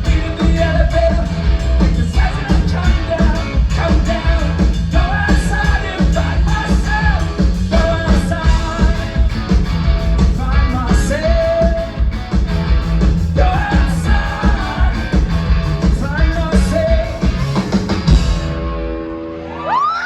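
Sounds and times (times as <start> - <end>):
punk rock band playing: 0.0 - 19.8.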